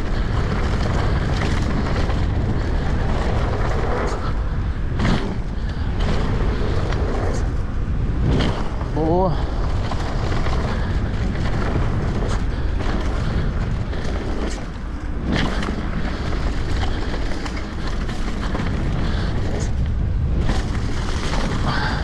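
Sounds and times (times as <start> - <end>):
bike knocking over bumps: 0.0 - 22.0
tyres on rough ground: 0.0 - 22.0
wind on microphone: 0.0 - 22.0.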